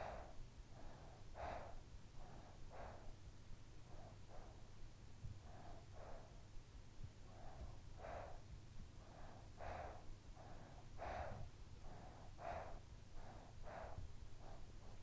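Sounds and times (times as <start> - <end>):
child breathing softly: 0.0 - 15.0.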